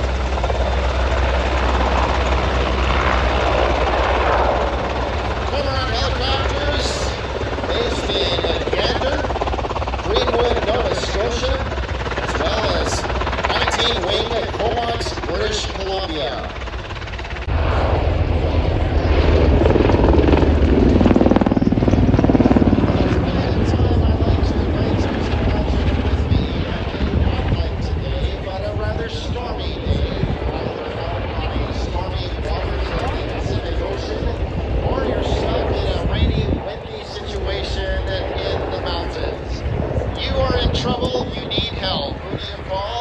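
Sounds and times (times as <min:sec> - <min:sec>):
helicopter flying: 0:00.0 - 0:43.0.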